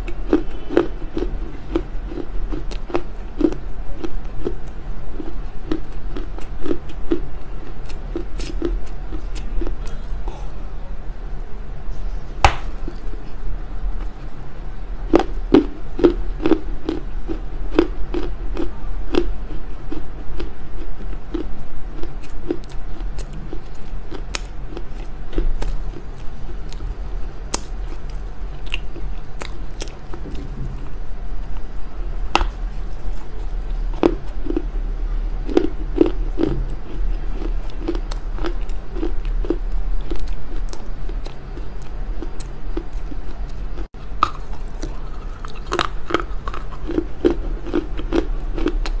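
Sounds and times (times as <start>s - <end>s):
crunchy chewing of dry clay: 0.0s - 10.6s, 12.0s - 49.0s.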